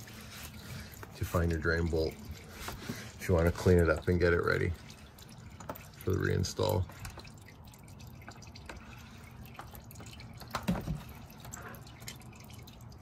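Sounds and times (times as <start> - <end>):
fluid dripping into pan: 0.0 - 13.0.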